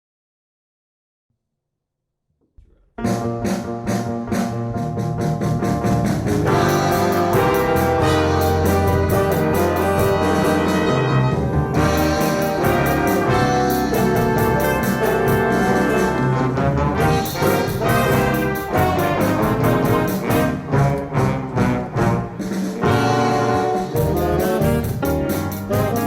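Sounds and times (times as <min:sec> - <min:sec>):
brass ensemble music: 0:03.1 - 0:26.0.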